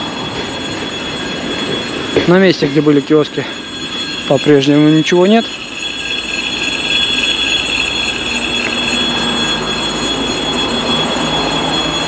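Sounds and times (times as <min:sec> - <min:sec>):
high wheel squeal: 0:00.0 - 0:12.0
train rolling past: 0:00.0 - 0:12.0.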